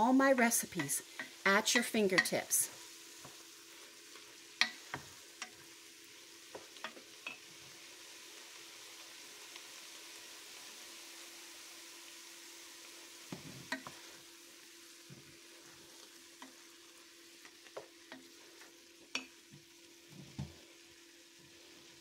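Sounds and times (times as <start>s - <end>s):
food sizzling in a pot: 0.0s - 22.0s.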